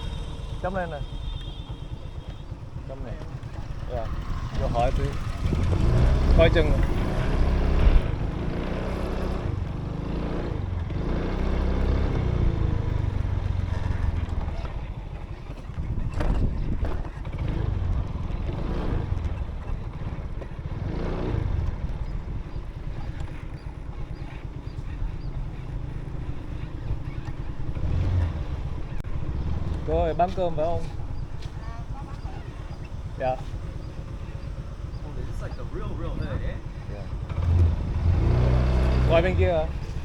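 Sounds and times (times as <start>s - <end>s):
motorbike engine running: 0.0s - 40.0s.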